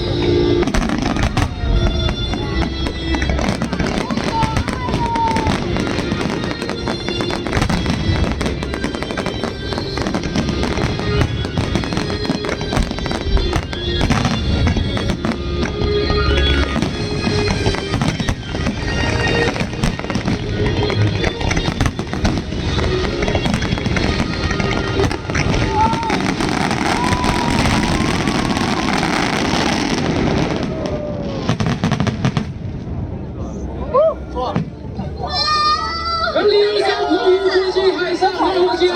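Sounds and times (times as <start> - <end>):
music playing: 0.0 - 30.6, 33.5 - 38.9
fireworks bangs and crackles: 0.0 - 33.3.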